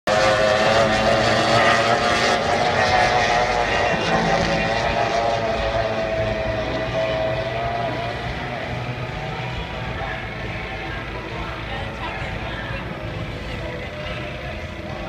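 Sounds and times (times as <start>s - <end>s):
powerboat engine at high speed: 0.1s - 15.0s.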